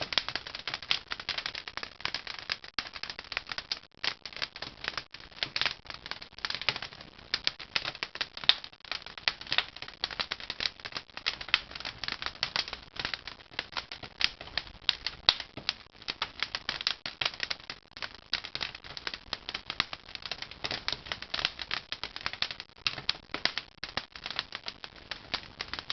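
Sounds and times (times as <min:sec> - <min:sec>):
firewood crackling and popping: 0:00.0 - 0:25.9.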